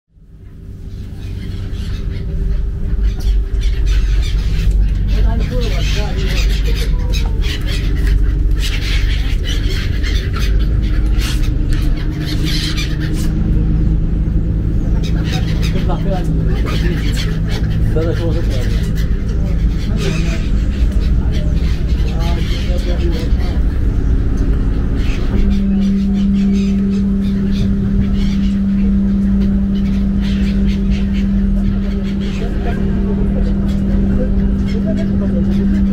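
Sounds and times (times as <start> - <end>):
ferry engine drone: 0.1 - 35.9
low rumble: 0.1 - 35.9
gulls calling: 0.2 - 35.9.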